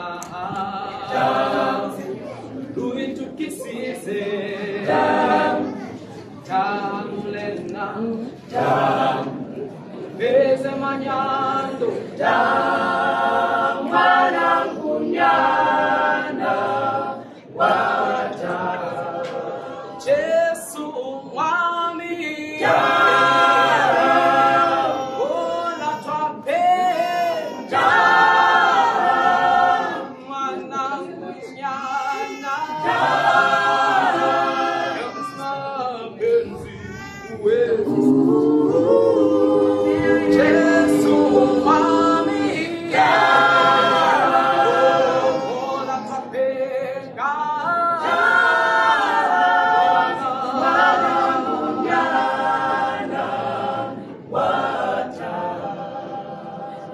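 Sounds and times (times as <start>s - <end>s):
group singing a cappella: 0.0s - 56.9s.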